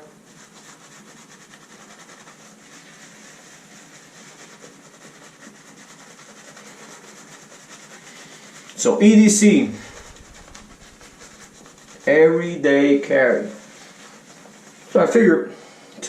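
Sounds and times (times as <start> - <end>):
shaving brush swishing lather: 0.0 - 15.3.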